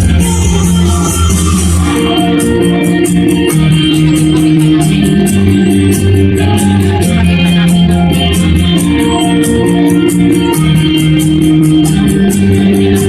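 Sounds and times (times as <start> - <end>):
instrumental music with steady beat: 0.0 - 13.0.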